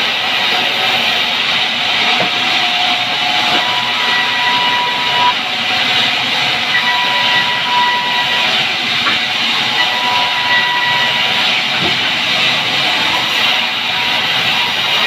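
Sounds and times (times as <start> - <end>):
band saw cutting wood: 0.6 - 15.0.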